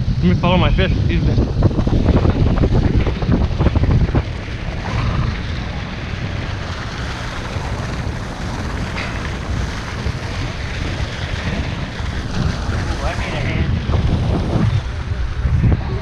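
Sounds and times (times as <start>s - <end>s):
sea water washing along hull: 0.0s - 16.0s
wind buffeting microphone: 0.0s - 16.0s.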